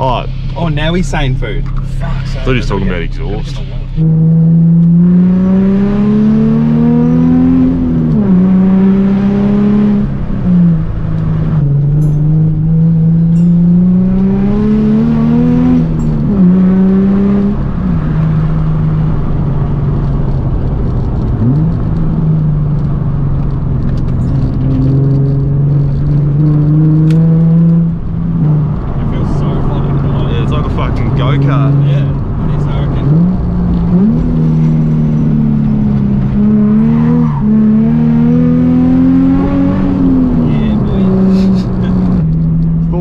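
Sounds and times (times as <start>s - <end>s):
car engine revving hard: 2.3s - 19.8s, 24.4s - 43.0s.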